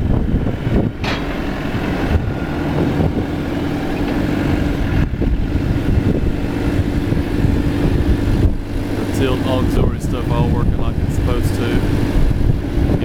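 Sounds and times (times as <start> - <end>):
diesel engine idling: 0.0 - 13.0
steady hum: 0.0 - 13.0.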